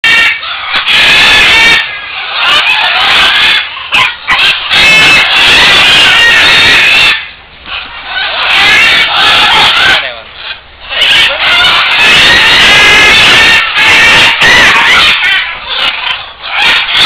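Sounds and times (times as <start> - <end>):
macaws squawking: 0.0 - 17.0.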